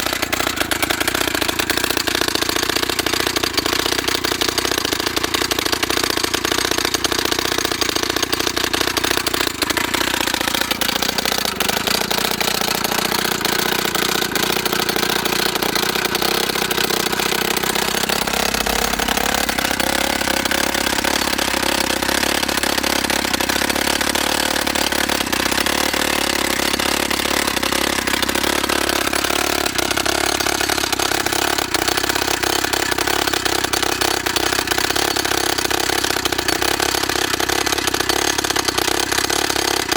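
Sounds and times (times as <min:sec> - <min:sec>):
rock drill engine clattering: 0:00.0 - 0:39.9.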